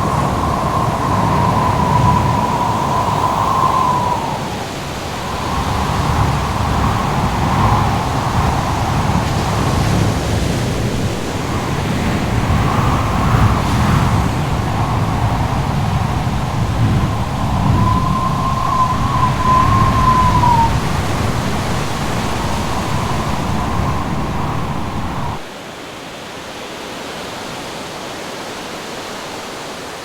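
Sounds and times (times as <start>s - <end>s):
howling wind with whistle: 0.0s - 25.5s
surf rushing: 0.0s - 25.5s.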